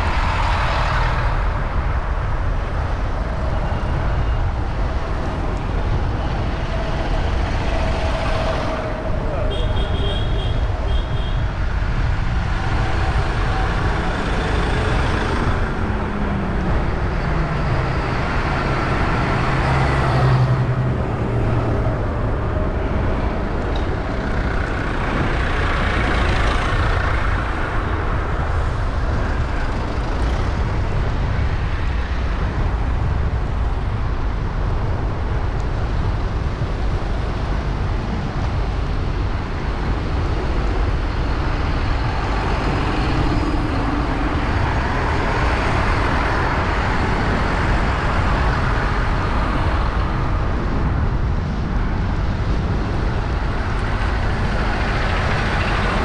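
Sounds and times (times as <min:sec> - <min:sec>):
tractor engines rumbling past: 0:00.0 - 0:56.0.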